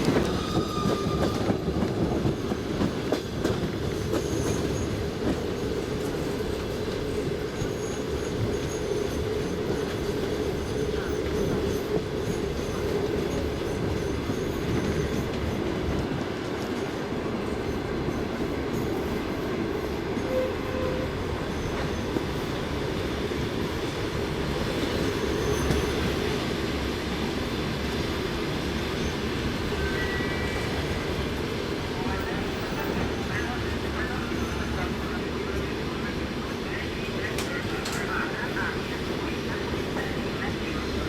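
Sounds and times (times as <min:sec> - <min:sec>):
train carriage running: 0:00.0 - 0:41.0.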